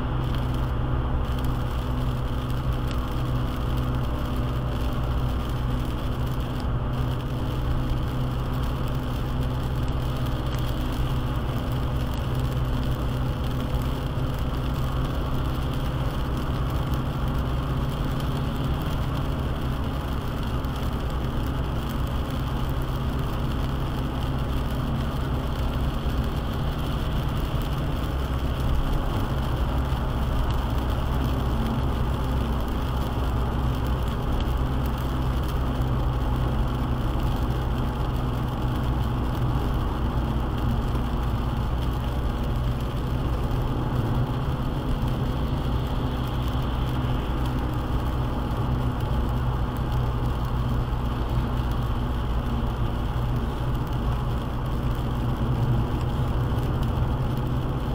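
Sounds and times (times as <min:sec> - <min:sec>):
car engine and road drone: 0:00.0 - 0:57.9
tyre hiss on wet road: 0:00.0 - 0:57.9.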